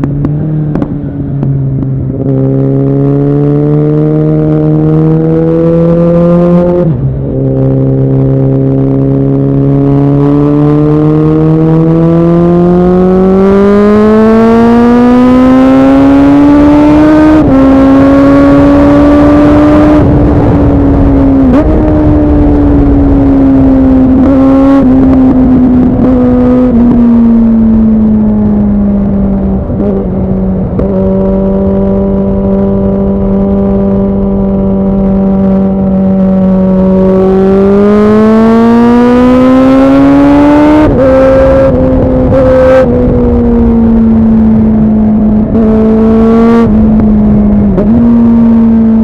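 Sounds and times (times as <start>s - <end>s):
motorcycle engine while riding: 0.0s - 49.0s.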